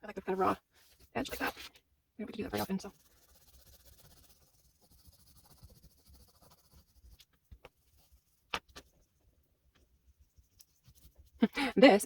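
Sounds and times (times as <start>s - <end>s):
faint rubbing and handling: 0.1s - 11.4s.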